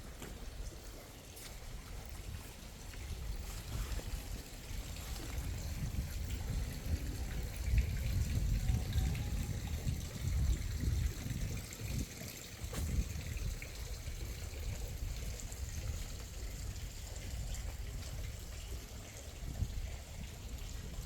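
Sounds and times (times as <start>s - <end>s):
water running: 0.0s - 21.0s.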